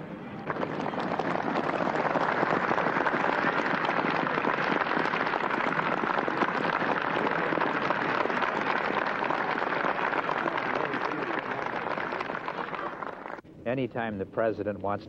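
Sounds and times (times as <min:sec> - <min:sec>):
large crowd applauding: 0:00.3 - 0:13.4.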